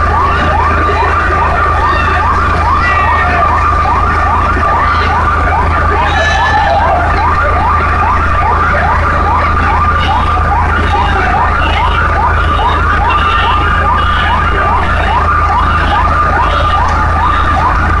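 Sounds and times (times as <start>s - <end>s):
fire engine siren yelping: 0.0s - 18.0s.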